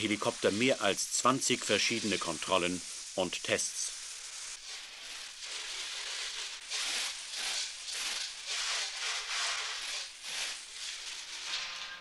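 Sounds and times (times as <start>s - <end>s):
water jet spraying metal: 0.0s - 12.0s.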